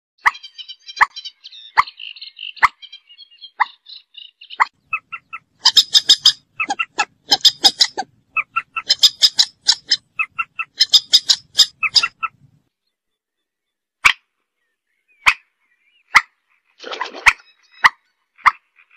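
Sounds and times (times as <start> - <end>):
moorhen calling: 0.2 - 18.9.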